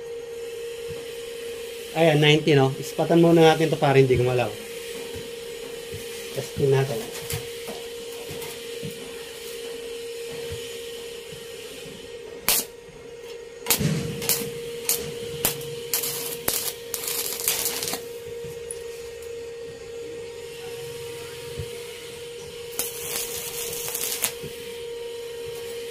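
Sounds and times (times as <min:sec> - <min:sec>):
welding arc crackling: 0:01.9 - 0:09.8, 0:10.4 - 0:25.9.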